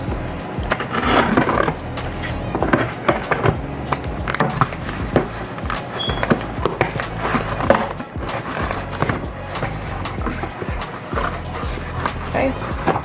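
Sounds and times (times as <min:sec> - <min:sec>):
plastic scrapes and rustles: 0:00.0 - 0:13.0.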